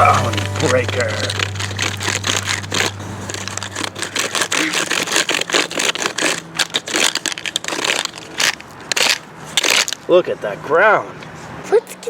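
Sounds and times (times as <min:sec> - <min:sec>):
toy truck scraping into dirt: 0:00.0 - 0:09.8.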